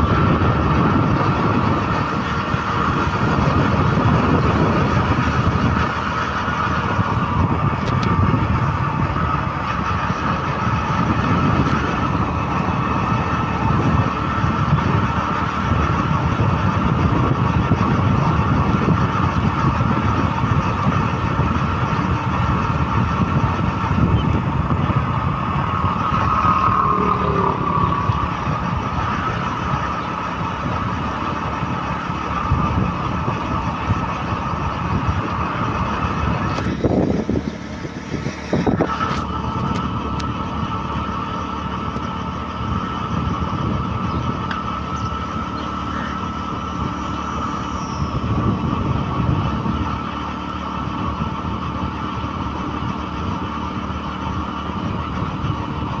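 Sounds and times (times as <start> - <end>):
road and wind noise: 0.0 - 56.0
steady whine: 0.0 - 56.0
vehicle engine running: 0.0 - 56.0.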